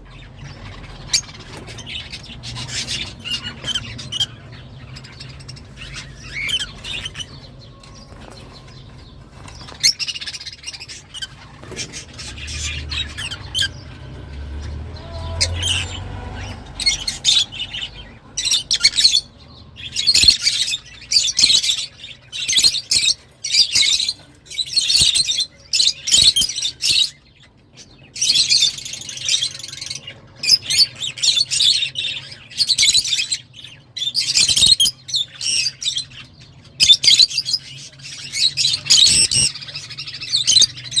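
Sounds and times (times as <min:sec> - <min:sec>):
lovebirds chirping and squawking: 0:00.0 - 0:41.0.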